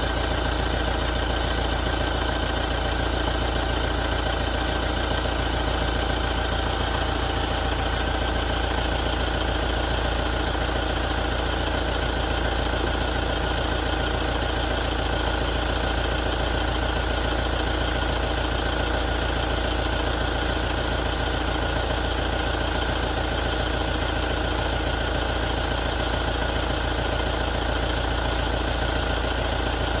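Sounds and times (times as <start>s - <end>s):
diesel engine idling with knocking: 0.0s - 30.0s.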